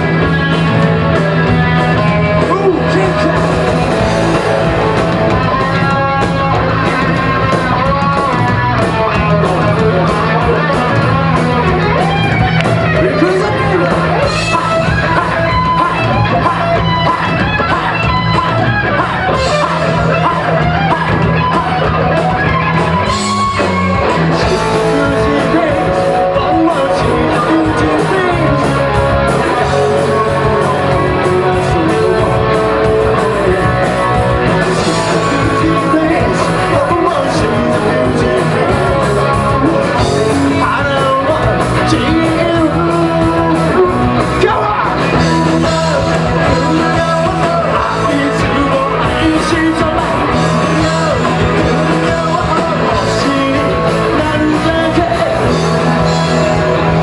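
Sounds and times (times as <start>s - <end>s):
distorted electric guitars: 0.0s - 57.0s
rock band playing live: 0.0s - 57.0s.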